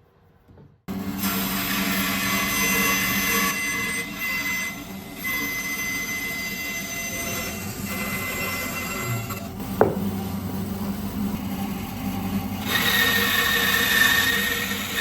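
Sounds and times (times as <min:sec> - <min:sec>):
lathe whine with cutting noise: 0:00.9 - 0:15.0.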